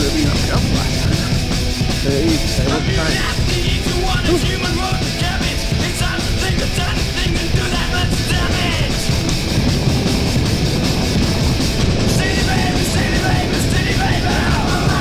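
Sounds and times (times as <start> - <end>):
loud rock music with singing: 0.0 - 15.0.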